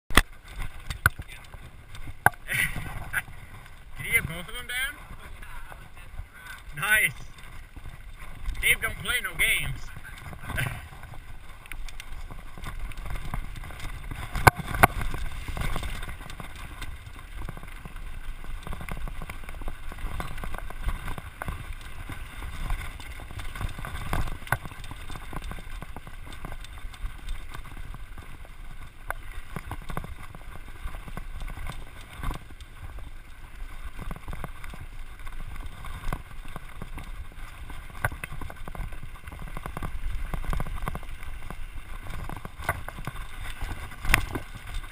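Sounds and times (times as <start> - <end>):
bike rattling over bumps: 0.1 - 44.9
tyres on dirt: 0.1 - 44.9.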